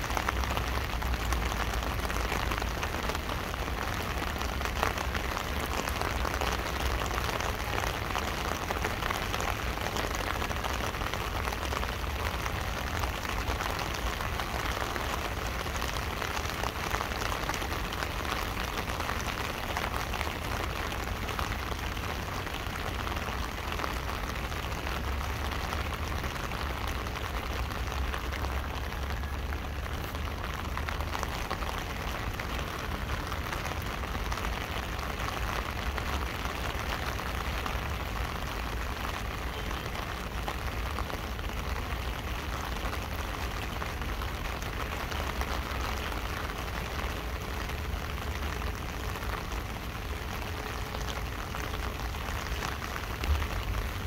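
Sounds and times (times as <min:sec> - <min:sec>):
rain pattering on an umbrella: 0:00.0 - 0:54.0.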